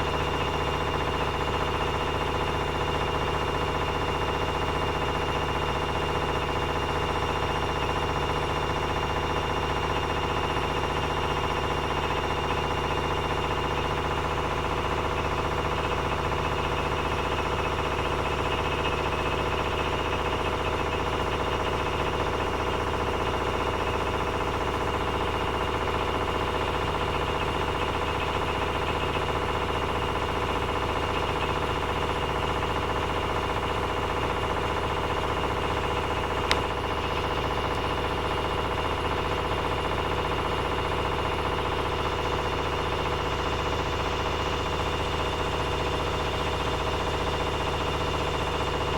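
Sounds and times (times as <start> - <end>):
washing machine spinning: 0.0 - 48.9.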